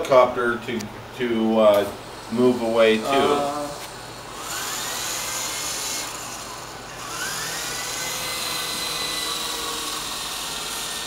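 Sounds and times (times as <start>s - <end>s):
toy helicopter motor whining: 1.9s - 11.0s.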